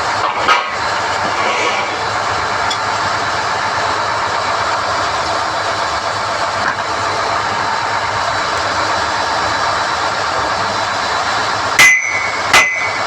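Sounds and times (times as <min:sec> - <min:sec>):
drilling rig mechanical drone: 0:00.0 - 0:13.0.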